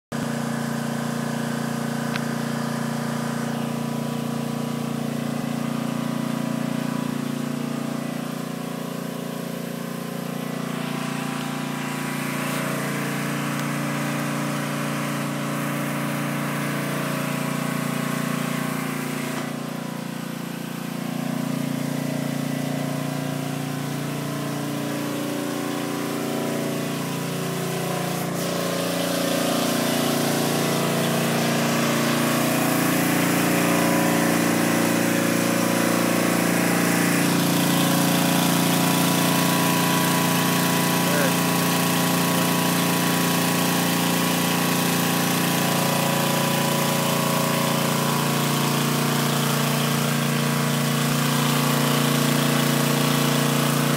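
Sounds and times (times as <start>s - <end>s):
motor engine running: 0.1s - 53.9s.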